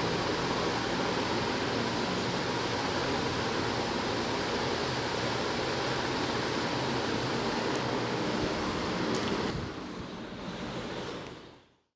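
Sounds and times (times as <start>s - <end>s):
ceiling fan whooshing: 0.0s - 11.9s.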